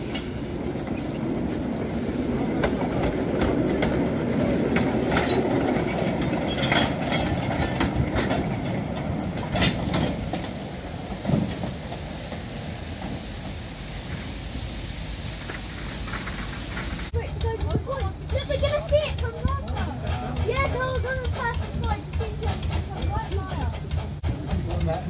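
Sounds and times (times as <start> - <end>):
steam locomotive rumbling: 0.0 - 25.0
wheels clicking and rattling on track: 0.0 - 25.0.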